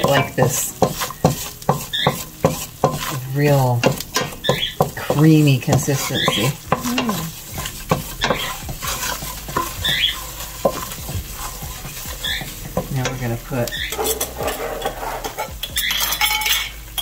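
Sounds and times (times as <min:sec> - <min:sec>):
roux sizzling: 0:00.0 - 0:17.0
wooden spoon scraping a pot: 0:00.0 - 0:17.0.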